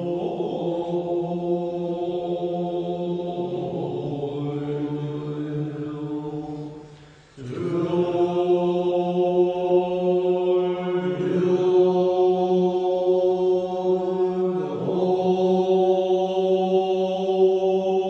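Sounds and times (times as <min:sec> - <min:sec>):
person chanting long held notes: 0:00.0 - 0:18.0.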